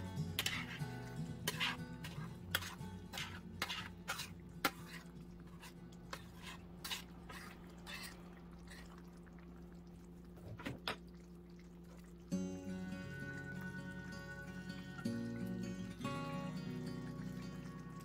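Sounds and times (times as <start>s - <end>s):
thick sauce simmering: 0.0s - 18.0s.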